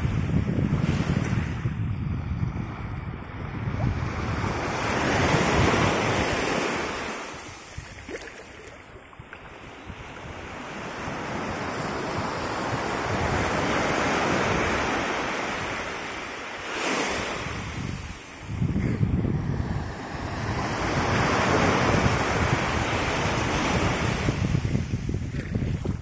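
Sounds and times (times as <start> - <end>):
surf washing up beach: 0.0 - 26.0
wind buffeting microphone: 0.0 - 26.0.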